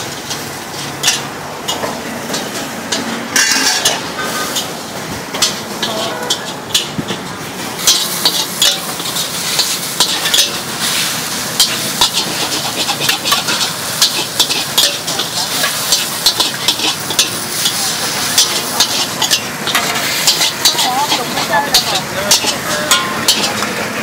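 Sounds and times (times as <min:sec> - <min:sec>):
food sizzling: 0:00.0 - 0:24.0
metal spatula scraping a wok: 0:00.1 - 0:24.0.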